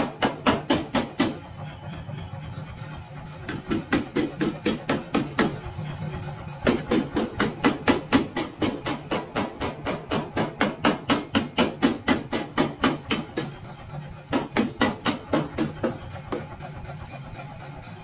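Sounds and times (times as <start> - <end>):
power hammer striking steel: 0.0 - 1.5, 3.3 - 17.9
steady low hum: 0.0 - 18.0.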